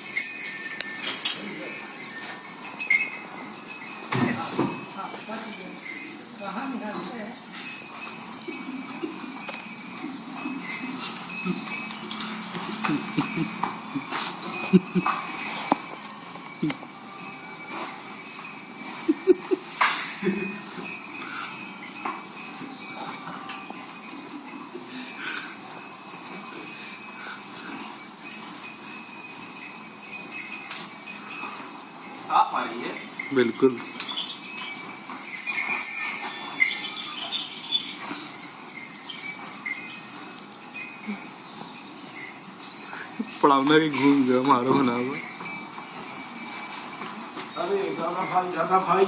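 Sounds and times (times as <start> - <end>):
cow bells jingling: 0.0 - 49.0
high insect-like chirring: 0.0 - 49.0.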